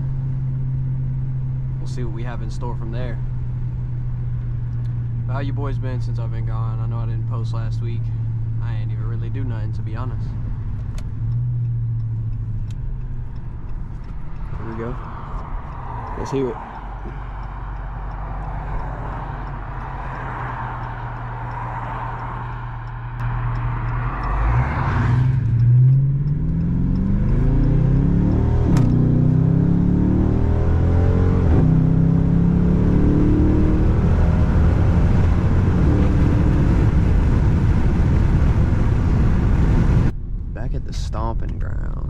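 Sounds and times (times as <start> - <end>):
car engine idling and accelerating: 0.0 - 42.0.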